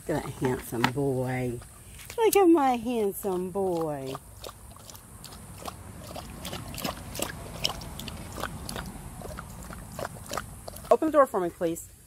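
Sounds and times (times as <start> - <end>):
dog lapping from plastic bowl: 0.1 - 11.2.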